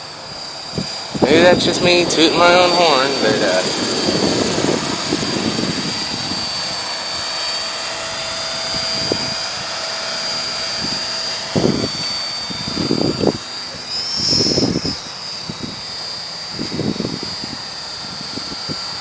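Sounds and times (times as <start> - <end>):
helicopter rotor high whine: 0.0 - 19.0
wind buffeting microphone: 0.6 - 13.5, 14.2 - 19.0.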